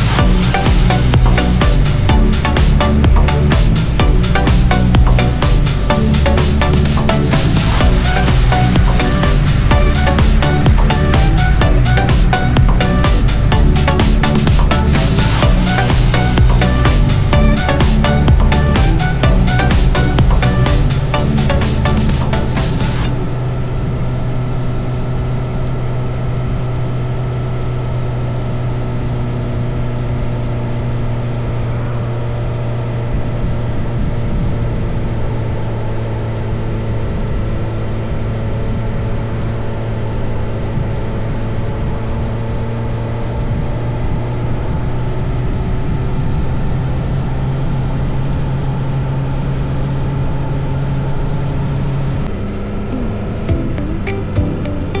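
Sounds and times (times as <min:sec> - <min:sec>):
road noise rushing: 0:00.0 - 0:36.4, 0:37.7 - 0:55.0
motorcycle engine running: 0:00.0 - 0:55.0.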